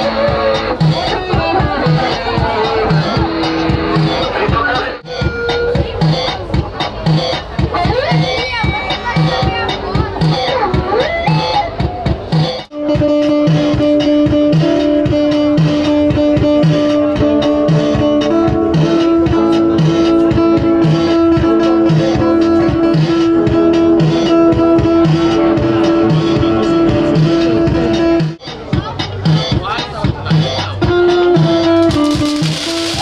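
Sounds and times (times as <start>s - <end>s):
guitar over a steady beat: 0.0s - 33.0s.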